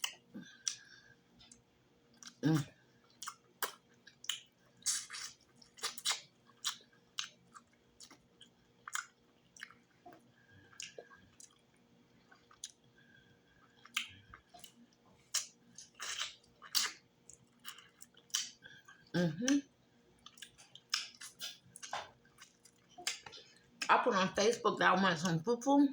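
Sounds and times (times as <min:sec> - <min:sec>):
chewing and mouth smacks: 0:00.0 - 0:13.0, 0:13.6 - 0:23.9.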